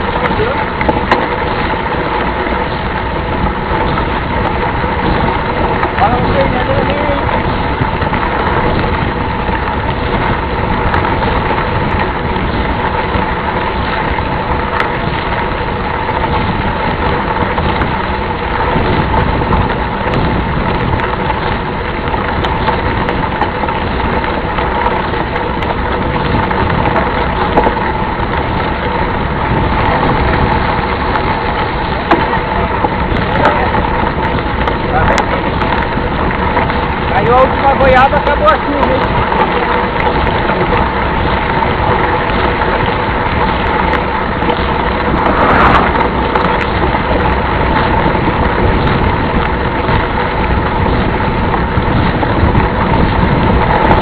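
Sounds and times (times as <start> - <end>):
bike rolling on trail: 0.0 - 54.0
wind on microphone: 0.0 - 54.0.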